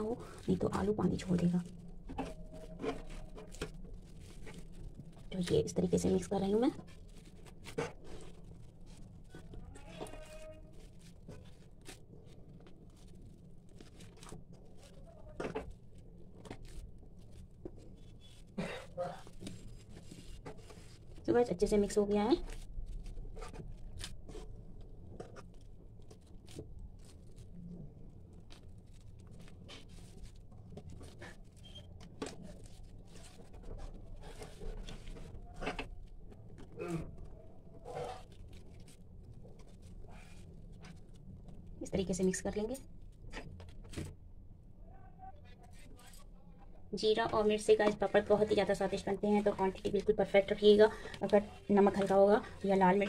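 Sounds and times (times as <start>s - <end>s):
dough squishing in a bowl: 0.0s - 53.0s.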